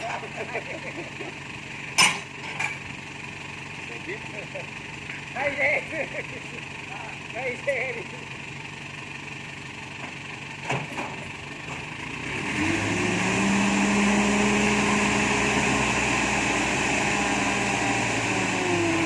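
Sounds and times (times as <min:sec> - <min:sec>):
excavator diesel engine revving: 0:00.0 - 0:19.0.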